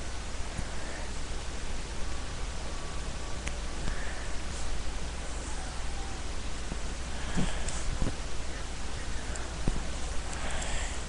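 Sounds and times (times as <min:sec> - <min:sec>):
microphone hiss and hum: 0:00.0 - 0:11.0.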